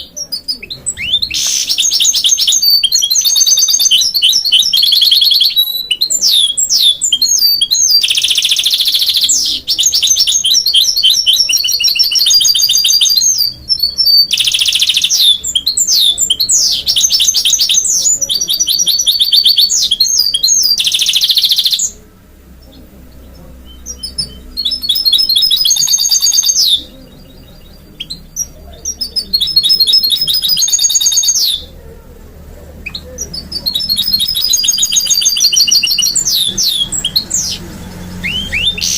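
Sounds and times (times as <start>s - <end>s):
bird singing high trills: 0.0s - 31.8s, 32.9s - 38.9s.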